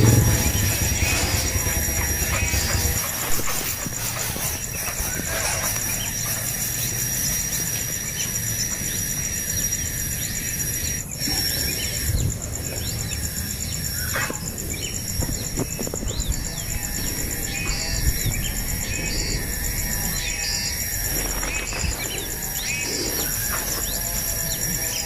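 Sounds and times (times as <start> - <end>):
birds chirping: 0.0 - 25.0
insects trilling: 0.0 - 25.0.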